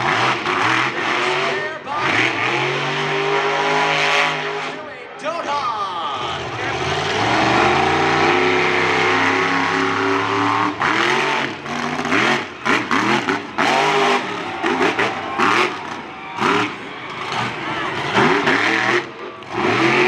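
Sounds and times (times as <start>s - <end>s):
monster truck engine revving: 0.0s - 4.9s, 6.1s - 20.0s.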